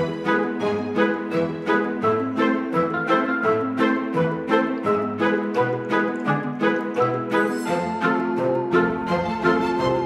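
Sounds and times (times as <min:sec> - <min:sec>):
light instrumental music: 0:00.0 - 0:10.0.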